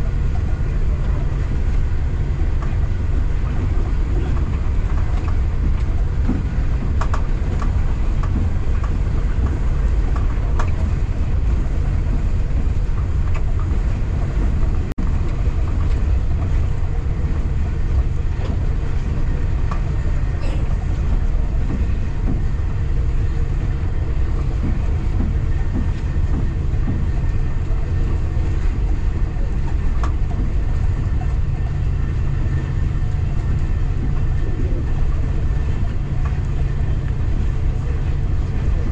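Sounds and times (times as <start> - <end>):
train rumbling: 0.0 - 38.9
wheels clicking on rails: 0.0 - 38.9.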